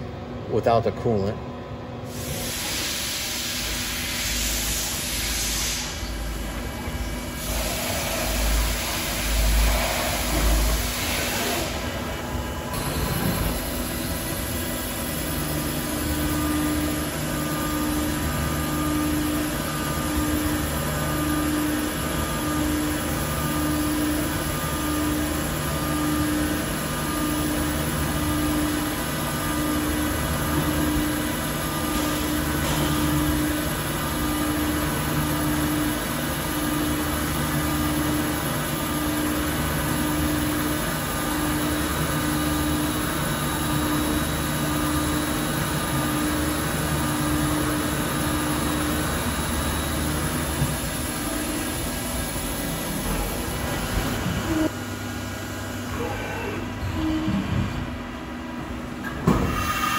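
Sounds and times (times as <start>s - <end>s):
mill cutting metal with coolant spray: 2.1s - 54.9s, 59.4s - 59.9s.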